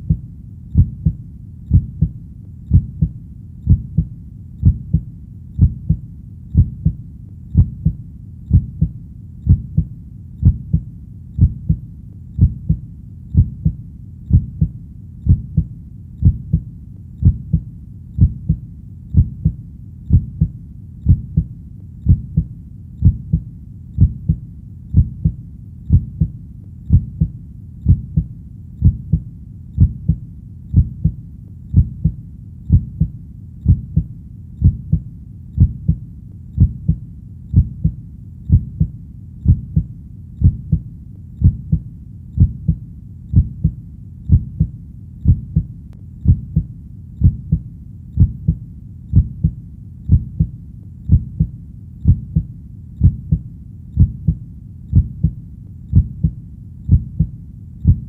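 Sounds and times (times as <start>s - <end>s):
heartbeat: 0.0s - 58.0s.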